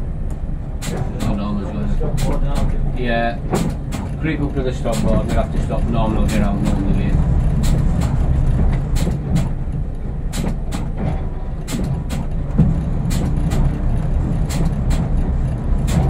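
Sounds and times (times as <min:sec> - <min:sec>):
train engine low rumble: 0:00.0 - 0:16.0
sharp clicks and rattles: 0:00.2 - 0:16.0.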